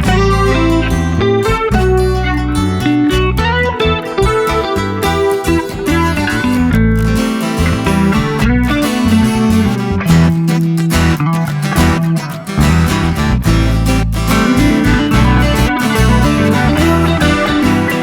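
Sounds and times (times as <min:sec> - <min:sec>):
song with guitar bass and drums: 0:00.0 - 0:18.0.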